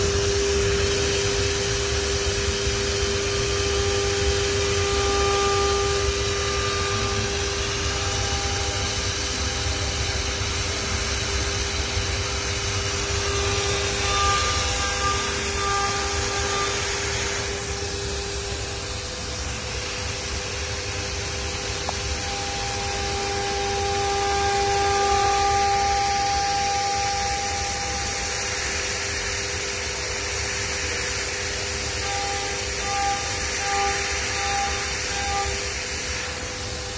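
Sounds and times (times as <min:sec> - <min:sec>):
milling machine whining: 0:00.0 - 0:36.9.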